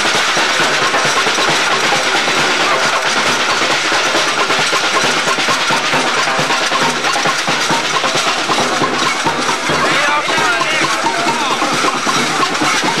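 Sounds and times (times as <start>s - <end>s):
samba percussion band drumming: 0.0s - 13.0s.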